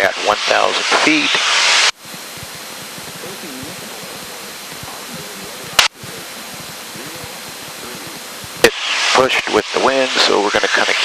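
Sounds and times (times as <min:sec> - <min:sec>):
aircraft cabin and engine hiss: 0:00.0 - 0:11.0
faint voices: 0:02.1 - 0:11.0.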